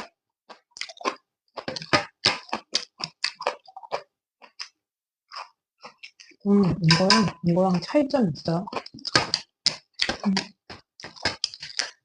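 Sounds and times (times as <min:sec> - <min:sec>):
smacking mouth sounds chewing noodles: 0:00.0 - 0:06.4, 0:08.7 - 0:12.0.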